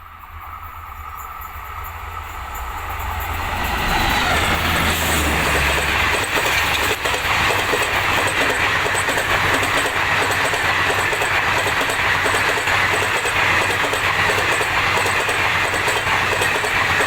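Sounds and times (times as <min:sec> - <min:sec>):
train wheels rattling on track: 0:00.0 - 0:17.0.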